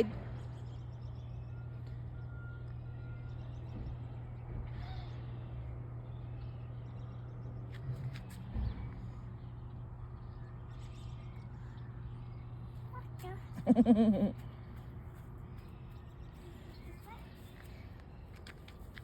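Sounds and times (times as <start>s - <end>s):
low outdoor hum: 0.0s - 19.0s.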